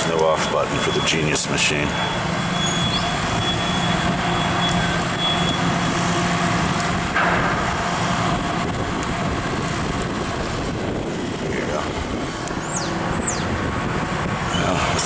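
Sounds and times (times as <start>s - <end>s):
heavy vehicle engine humming: 0.0s - 15.0s.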